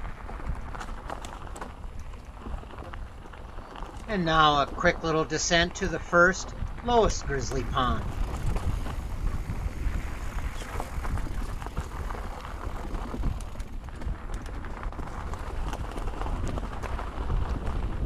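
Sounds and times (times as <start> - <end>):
bike rattling over bumps: 0.0 - 5.3, 8.0 - 18.0
bike tyres on dirt and rocks: 0.0 - 18.0
wind rumbling on microphone: 0.0 - 18.0.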